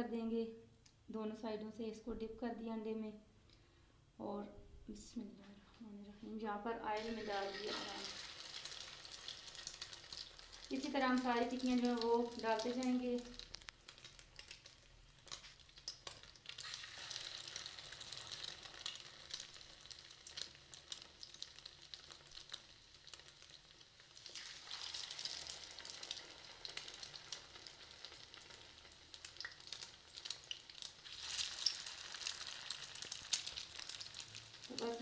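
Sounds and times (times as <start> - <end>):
food sizzling in hot oil: 6.9 - 35.0.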